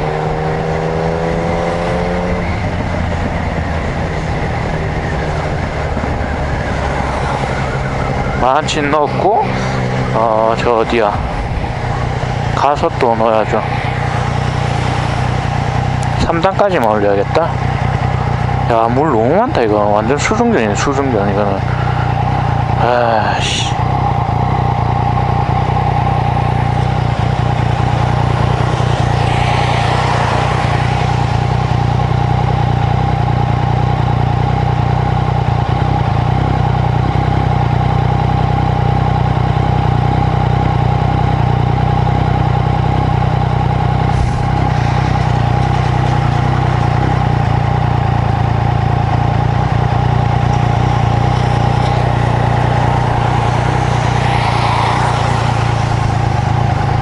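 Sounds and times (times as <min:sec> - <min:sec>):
motorcycle engine running at low speed: 0:00.0 - 0:57.0.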